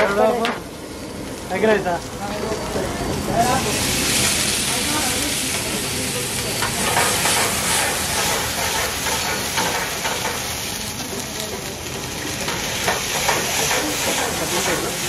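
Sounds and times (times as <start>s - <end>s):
food sizzling in a steel pan: 0.0s - 15.0s.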